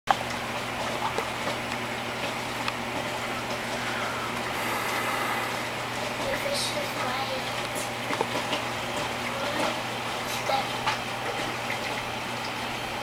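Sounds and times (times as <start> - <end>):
bubbling water: 0.1 - 13.0
low pump hum: 0.1 - 13.0.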